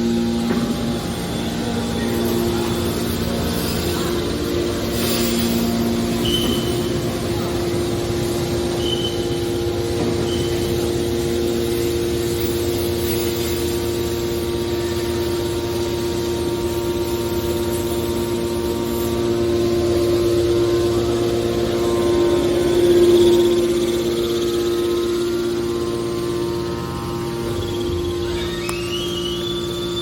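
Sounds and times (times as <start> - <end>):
hydraulic baler motor humming: 0.0 - 30.0.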